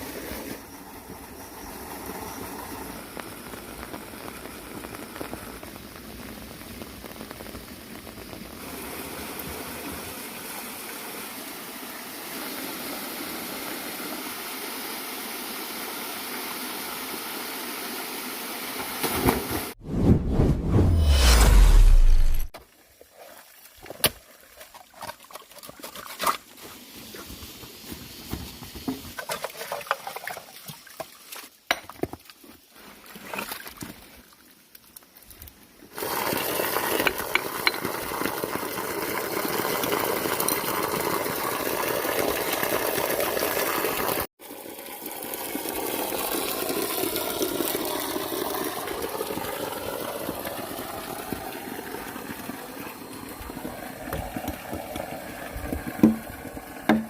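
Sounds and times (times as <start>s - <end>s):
water pouring and splashing: 0.0s - 14.5s, 21.2s - 35.1s, 35.9s - 57.0s.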